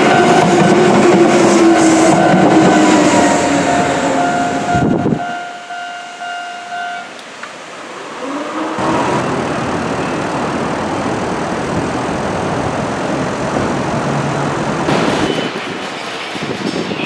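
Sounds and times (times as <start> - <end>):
train wheels rumbling on track: 0.0 - 5.4, 8.5 - 17.0.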